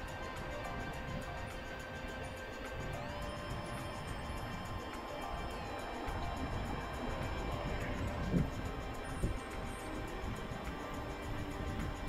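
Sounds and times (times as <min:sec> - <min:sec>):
music playing: 0:00.0 - 0:12.0
steady low rumble: 0:00.0 - 0:12.0.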